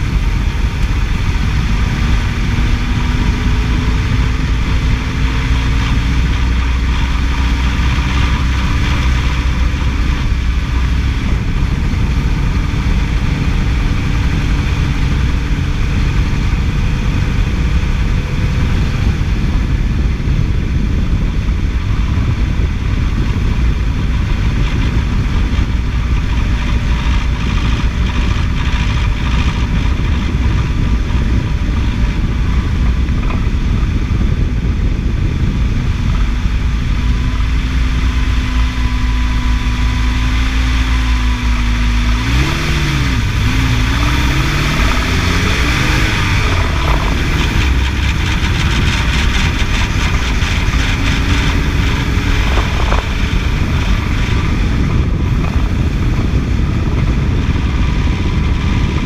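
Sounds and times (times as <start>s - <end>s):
car engine running and revving: 0.0s - 59.0s.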